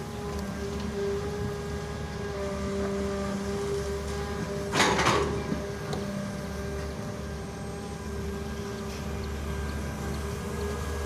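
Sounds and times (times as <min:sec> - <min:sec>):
excavator engine droning: 0:00.0 - 0:11.0.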